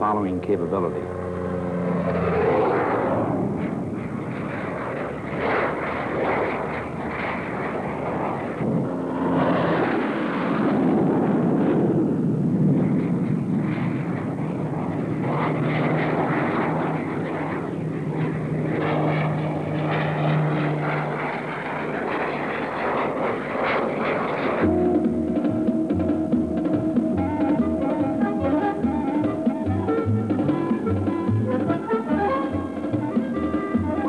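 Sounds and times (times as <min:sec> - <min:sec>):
helicopter flying past: 0:00.0 - 0:34.0.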